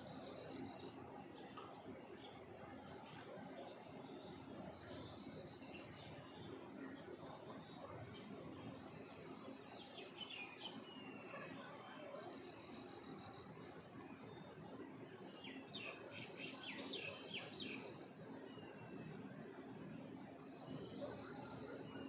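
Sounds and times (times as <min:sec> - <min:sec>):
high-pitched insect chorus: 0:00.1 - 0:22.0.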